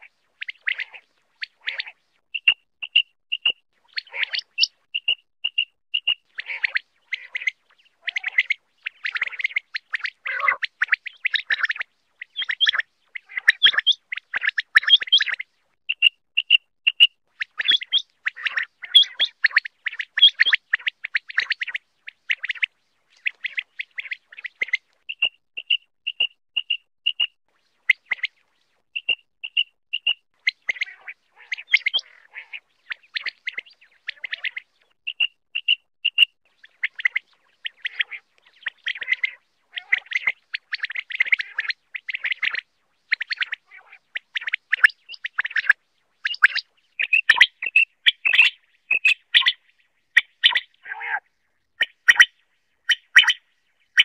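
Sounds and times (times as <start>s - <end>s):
quail calling: 0.0s - 15.4s, 16.0s - 27.3s, 29.0s - 54.0s.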